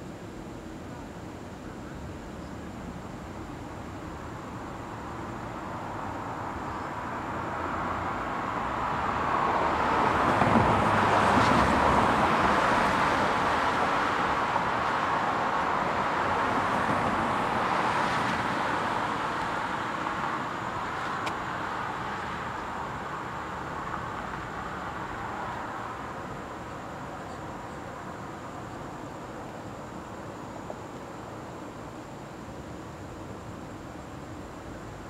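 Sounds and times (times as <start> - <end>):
cars passing on street: 3.3 - 35.0.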